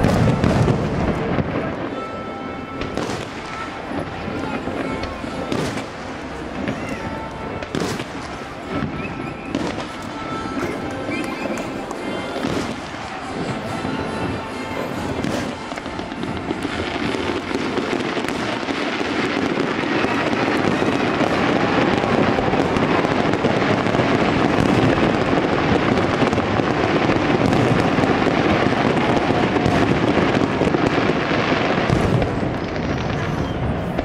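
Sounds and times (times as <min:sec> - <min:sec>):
fireworks bursting and crackling: 0:00.0 - 0:34.0.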